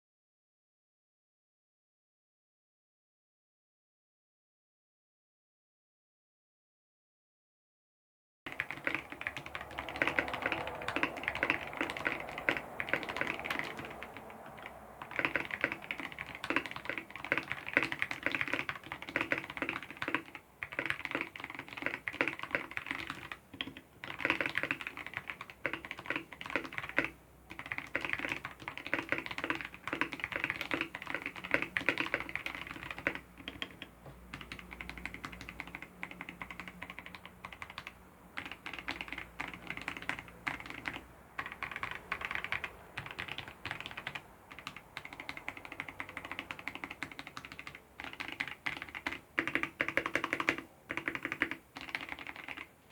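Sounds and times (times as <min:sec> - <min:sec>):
typing on mechanical keyboard: 0:08.5 - 0:52.9.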